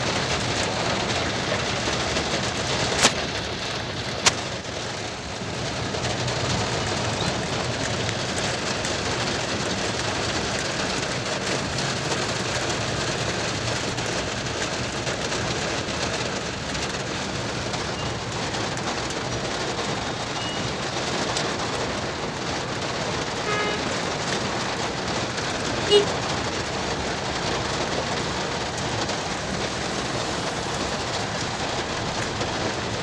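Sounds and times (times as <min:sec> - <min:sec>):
moving car rumble: 0:00.0 - 0:33.0
rain on a car: 0:00.0 - 0:33.0.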